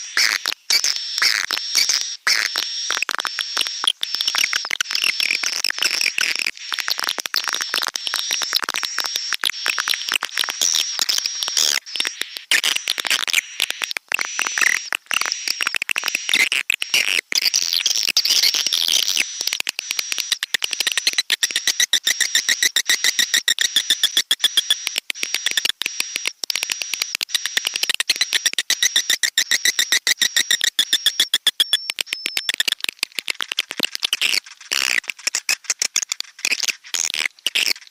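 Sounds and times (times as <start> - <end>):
rapid clicking rhythm: 0.0 - 37.9.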